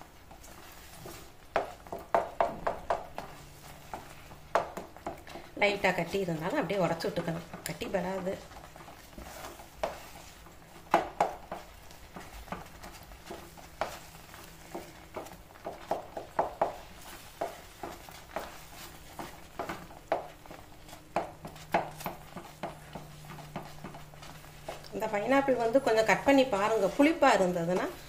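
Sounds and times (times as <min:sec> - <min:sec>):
wooden spatula scraping pan: 0:00.0 - 0:28.0.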